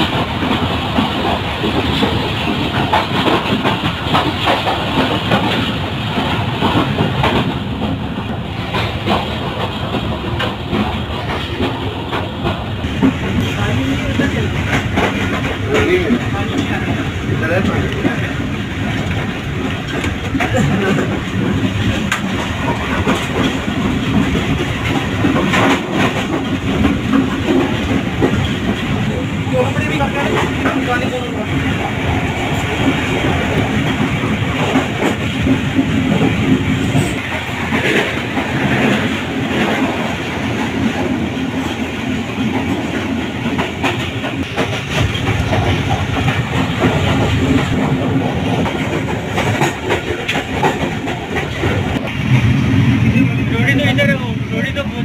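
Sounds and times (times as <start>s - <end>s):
train rumbling on track: 0.0s - 55.0s
wheels clacking over rail joints: 0.0s - 55.0s.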